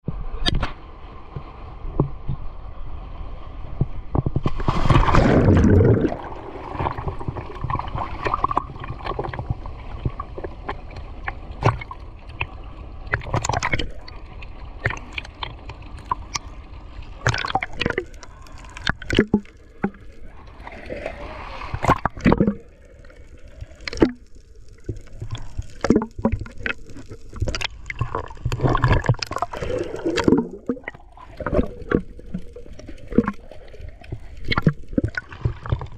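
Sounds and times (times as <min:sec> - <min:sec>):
water sloshing and gurgling: 0:00.4 - 0:35.9.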